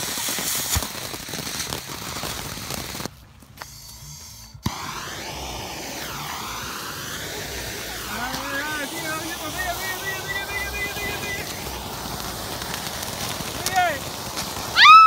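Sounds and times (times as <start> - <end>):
fireworks hissing and crackling: 0.0 - 15.0.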